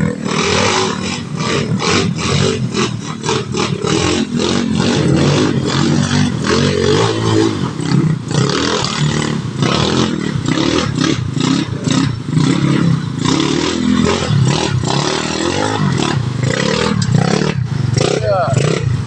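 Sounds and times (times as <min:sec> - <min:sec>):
scooter engine revving: 0:00.0 - 0:19.0.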